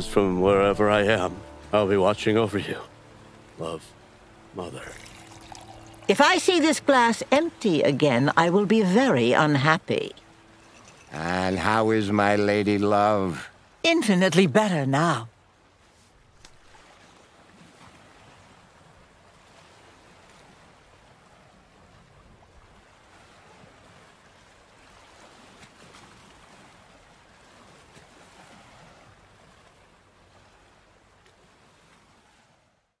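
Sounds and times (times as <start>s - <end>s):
faint ocean surf: 0.0s - 32.9s.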